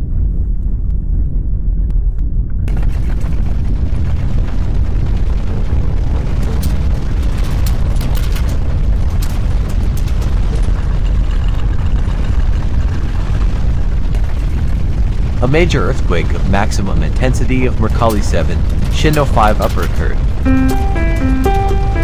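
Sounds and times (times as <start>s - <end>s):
deep earthquake rumble: 0.0s - 22.0s.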